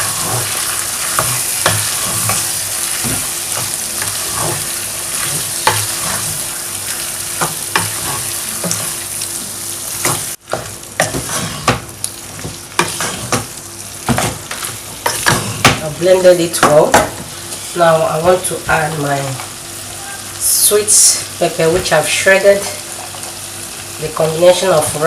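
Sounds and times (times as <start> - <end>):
sauce sizzling in pot: 0.0 - 25.0.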